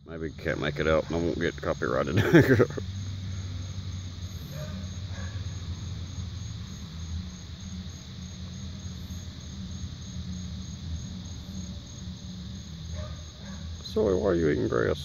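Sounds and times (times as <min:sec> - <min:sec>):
crickets chirping: 0:00.0 - 0:15.0
muffled distant bass music: 0:00.0 - 0:15.0.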